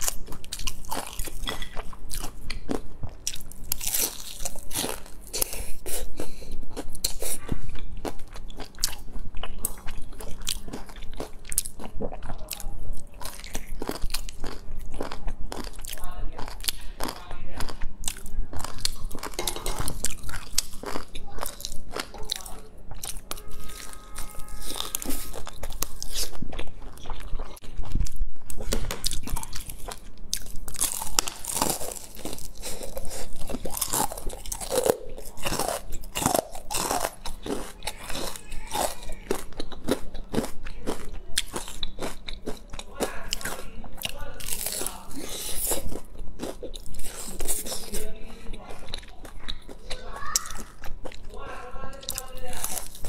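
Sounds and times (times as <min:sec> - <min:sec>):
crunching fried batter: 0:00.0 - 0:53.0.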